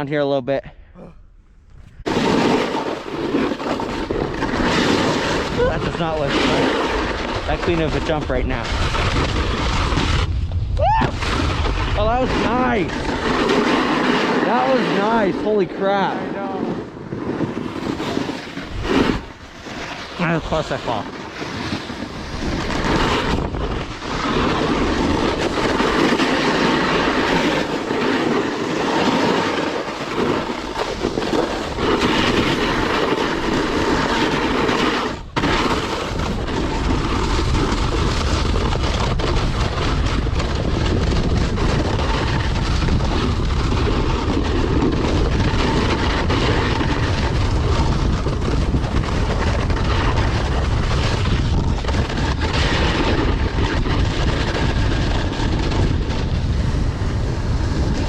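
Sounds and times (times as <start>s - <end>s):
wind on microphone: 1.0s - 58.0s
snowboard scraping over snow: 1.9s - 58.0s.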